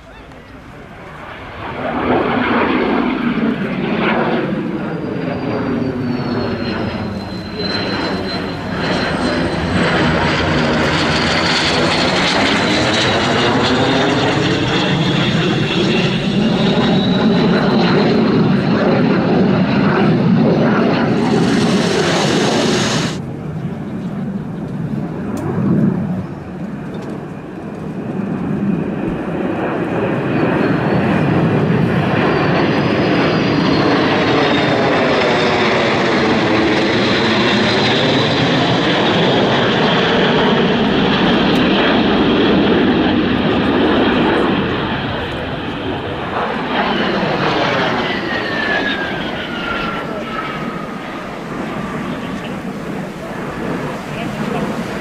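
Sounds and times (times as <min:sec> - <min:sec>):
jet engines flying past: 0:00.0 - 0:55.0.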